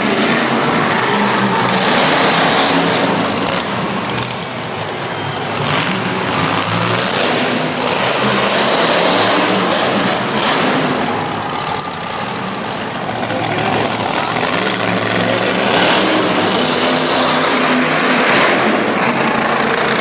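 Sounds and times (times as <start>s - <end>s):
monster truck engine running: 0.0s - 20.0s.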